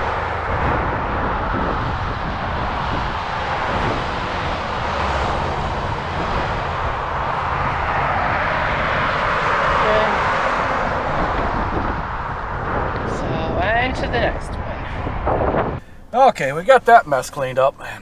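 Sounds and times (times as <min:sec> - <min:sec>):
road traffic going by: 0:00.0 - 0:18.0.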